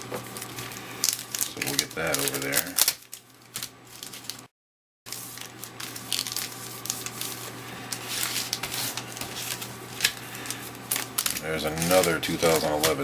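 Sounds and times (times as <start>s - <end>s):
foil wrappers crinkling: 0.0s - 4.5s, 5.1s - 13.0s.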